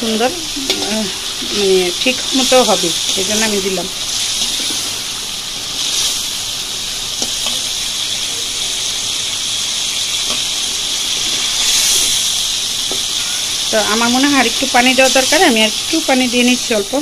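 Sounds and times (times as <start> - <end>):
fish frying in spice paste: 0.0 - 17.0.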